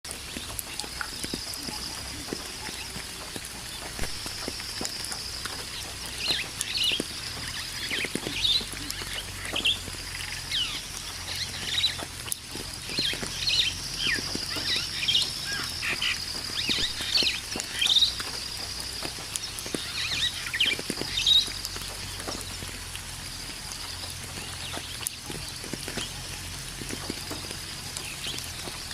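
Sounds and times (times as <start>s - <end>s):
birds chirping and whistling: 0.2s - 28.9s.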